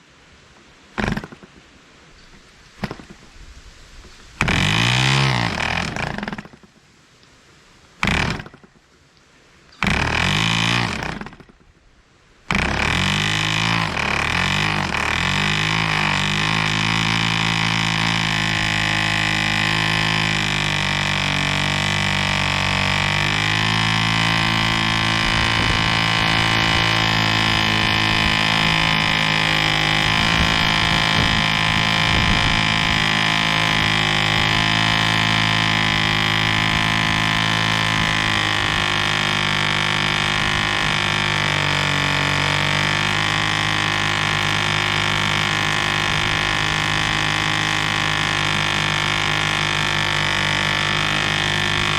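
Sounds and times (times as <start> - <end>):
model airplane engine buzzing: 0.9 - 1.6, 2.2 - 6.8, 8.0 - 8.8, 9.7 - 11.8, 12.4 - 51.9.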